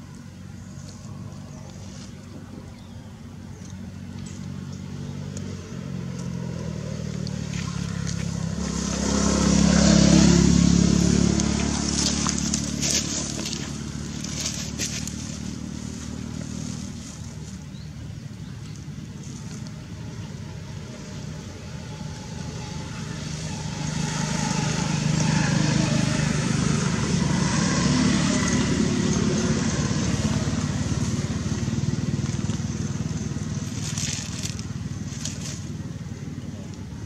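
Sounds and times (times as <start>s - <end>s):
motorcycle engine passing: 3.7s - 37.0s.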